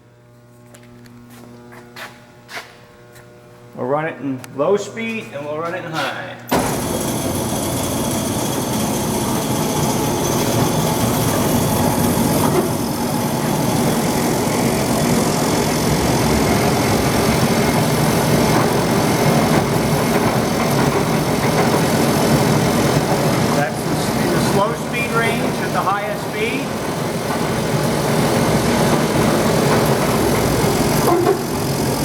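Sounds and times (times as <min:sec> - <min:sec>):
bandsaw running: 0:05.7 - 0:32.0.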